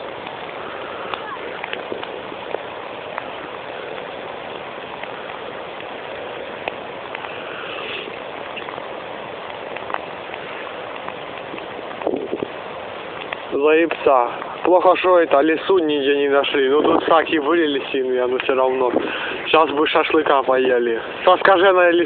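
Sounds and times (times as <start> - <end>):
bonfire hissing and crackling: 0.0 - 22.0.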